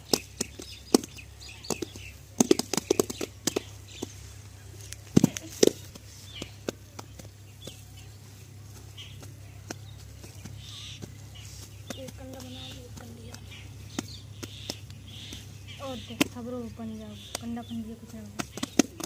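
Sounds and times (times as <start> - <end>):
hands slapping wet dung: 0.0 - 19.0.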